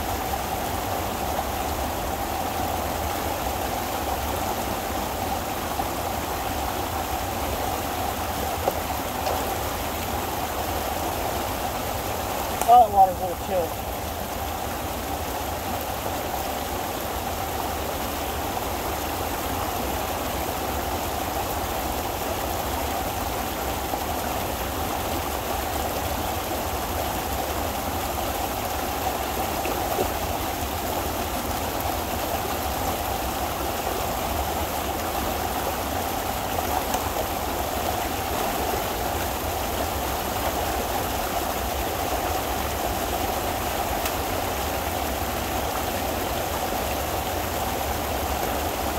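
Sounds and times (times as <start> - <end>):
water rushing: 0.0 - 48.9.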